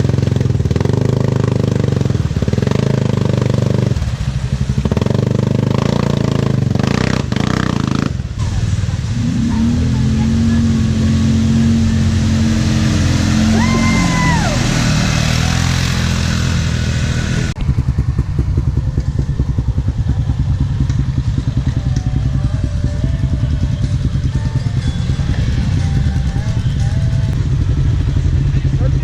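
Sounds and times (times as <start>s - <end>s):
off-road vehicle engine running: 0.0s - 29.0s
throbbing engine close up: 0.0s - 29.0s.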